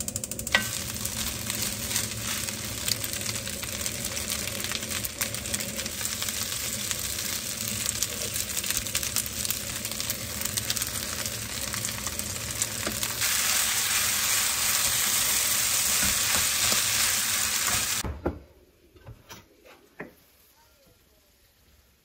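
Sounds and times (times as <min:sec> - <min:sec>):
food sizzling in frying pan: 0:00.3 - 0:18.0.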